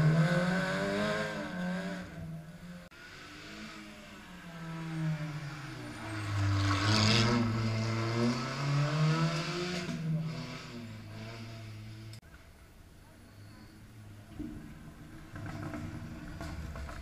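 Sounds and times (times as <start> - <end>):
rally car engine: 0.0 - 12.3, 13.0 - 17.0.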